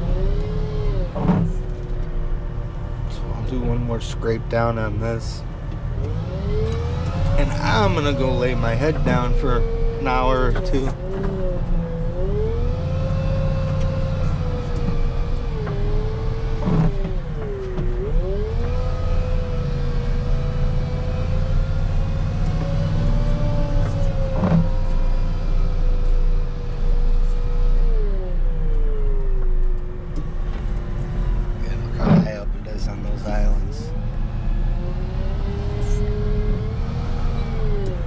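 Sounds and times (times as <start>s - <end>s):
wheel loader diesel rumble: 0.0s - 38.0s.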